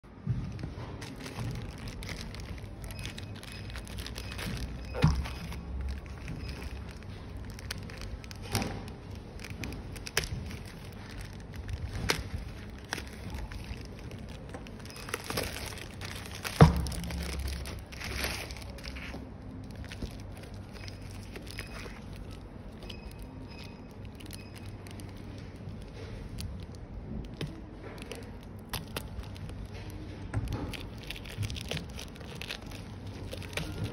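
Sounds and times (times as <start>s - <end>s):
plastic mailer bag crinkling: 0.5s - 33.9s
scissors cutting plastic: 0.9s - 33.9s.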